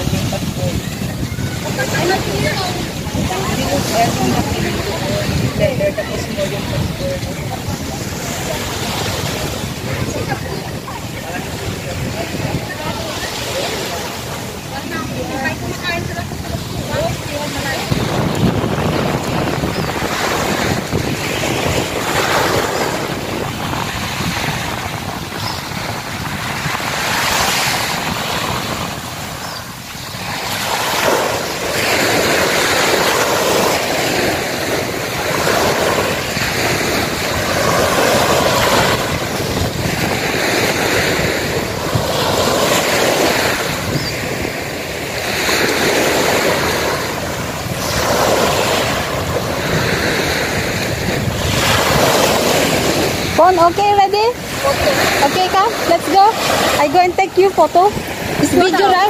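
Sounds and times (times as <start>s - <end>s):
small waves washing onto beach: 0.0s - 59.0s.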